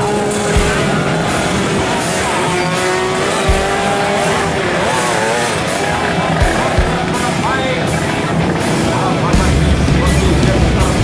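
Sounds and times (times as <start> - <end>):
motorcycle engines revving: 0.0 - 11.0
music playing: 0.0 - 11.0.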